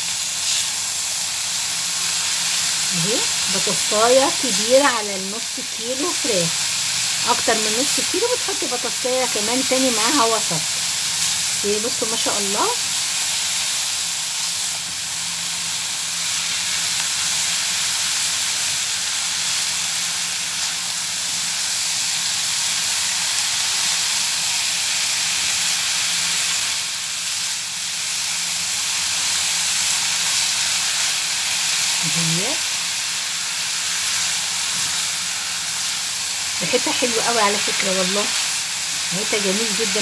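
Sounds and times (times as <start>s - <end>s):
food sizzling in frying pan: 0.0s - 40.0s.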